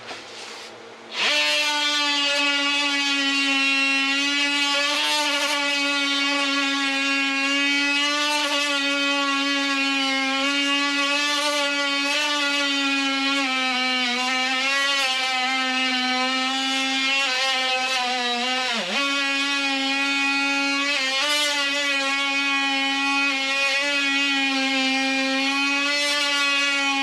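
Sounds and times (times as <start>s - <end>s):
power tool buzzing: 0.0s - 27.0s.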